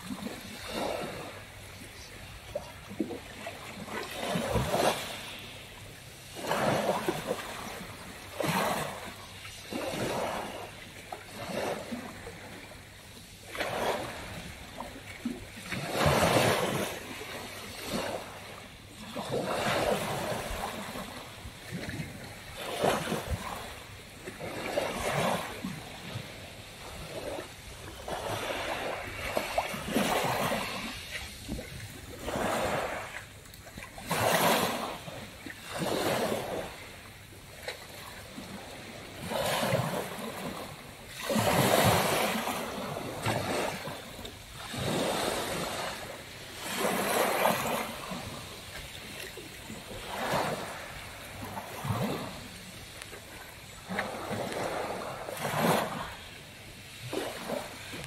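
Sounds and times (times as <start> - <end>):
waves washing up pebble beach: 0.0 - 37.0, 37.8 - 58.0.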